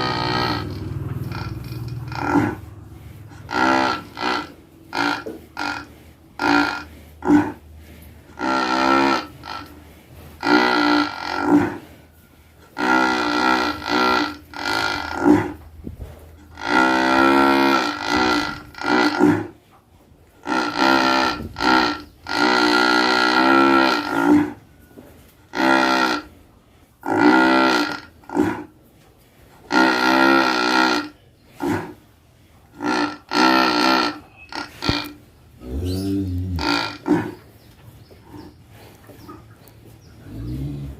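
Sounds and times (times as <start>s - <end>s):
cow snoring: 0.0s - 15.7s, 16.4s - 19.6s, 20.4s - 24.6s, 25.5s - 26.4s, 27.0s - 28.8s, 29.5s - 37.5s, 40.2s - 40.9s.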